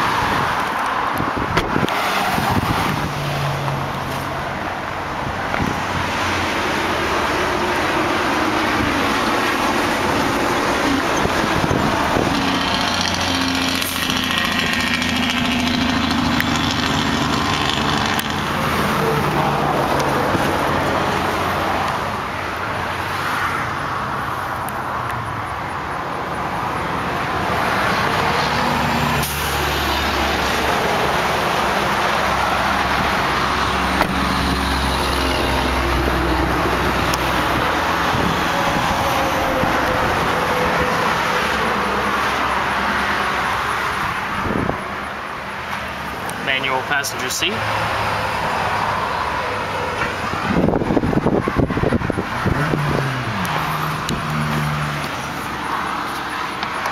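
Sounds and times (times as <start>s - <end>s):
vehicle engine hum: 0.0s - 56.9s.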